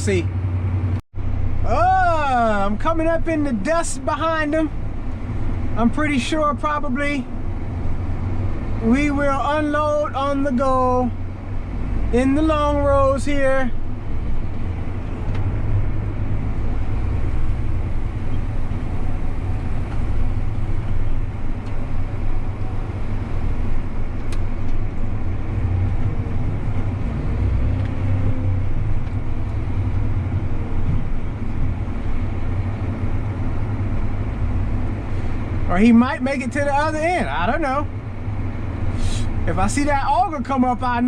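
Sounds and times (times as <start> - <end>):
tractor engine droning: 0.0 - 41.0.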